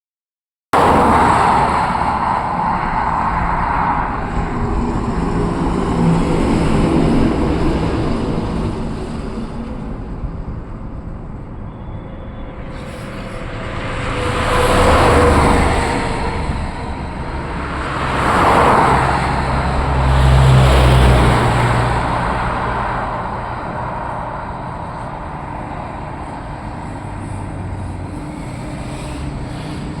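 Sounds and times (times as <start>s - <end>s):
continuous traffic noise: 0.8s - 30.0s
loud vehicle pass-bys: 0.8s - 30.0s.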